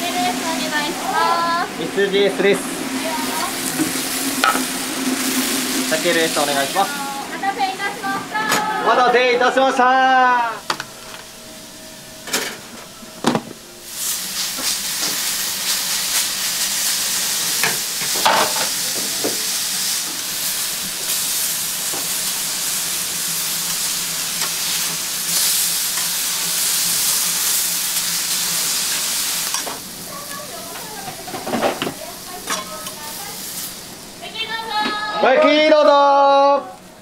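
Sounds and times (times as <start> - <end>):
steak sizzling on a griddle: 0.0 - 11.3, 13.8 - 36.6.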